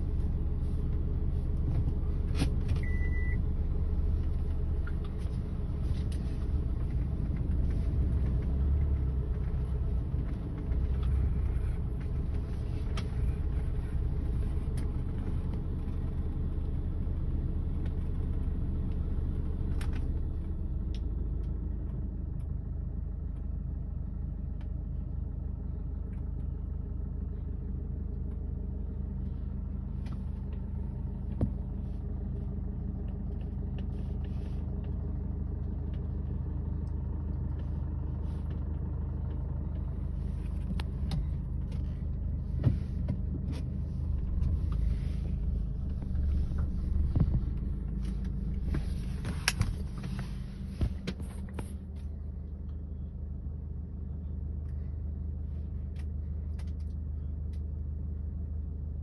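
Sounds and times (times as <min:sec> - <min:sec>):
engine running with low rumble: 0:00.0 - 0:59.0.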